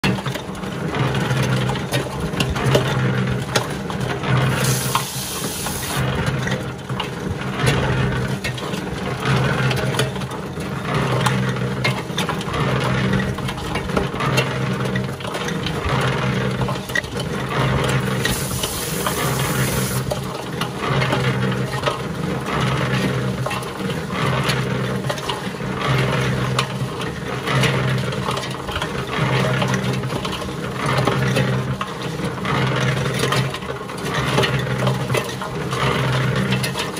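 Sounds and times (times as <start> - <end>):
cement mixer motor hum: 0.0 - 36.9
stones rattling in mixer drum: 0.0 - 36.9.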